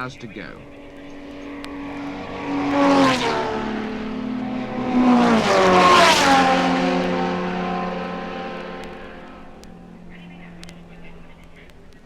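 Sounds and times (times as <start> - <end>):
racing cars passing at speed: 0.0 - 12.0.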